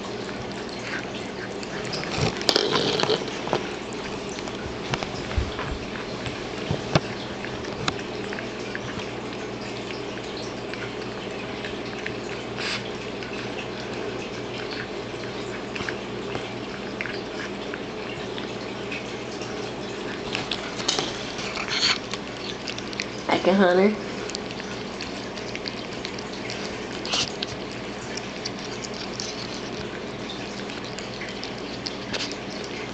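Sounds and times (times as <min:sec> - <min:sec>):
cat eating wet food: 0:00.0 - 0:32.9
steady background hum: 0:00.0 - 0:32.9.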